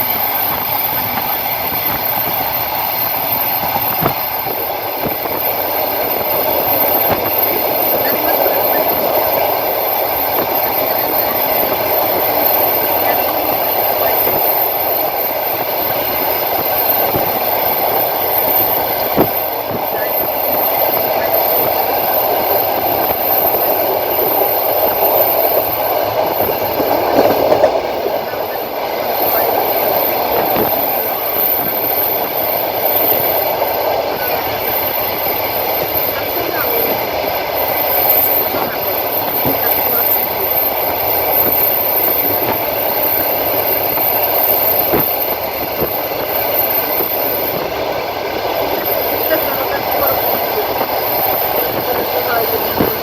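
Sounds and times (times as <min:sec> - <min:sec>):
train knocks: 0:00.0 - 0:53.0
train wheels rumbling on rail: 0:00.0 - 0:53.0.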